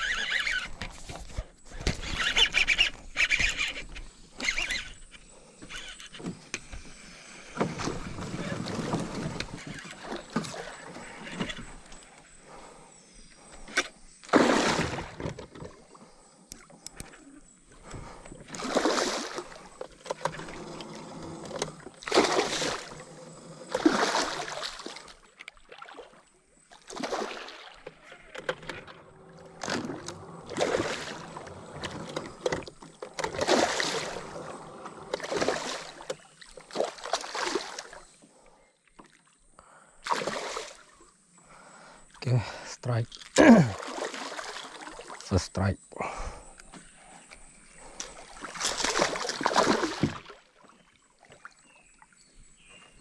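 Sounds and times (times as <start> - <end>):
water lapping: 0.0 - 53.0
water splashing and sloshing: 0.0 - 53.0.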